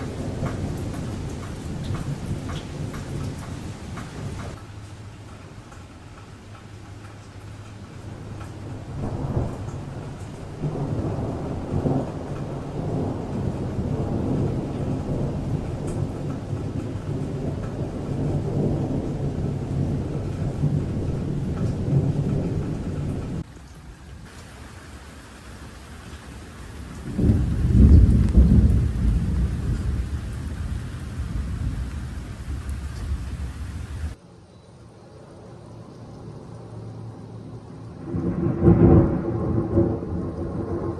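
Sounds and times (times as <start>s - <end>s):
thunder rumbling: 0.0s - 4.8s, 7.4s - 23.5s, 24.2s - 34.2s, 36.3s - 40.9s.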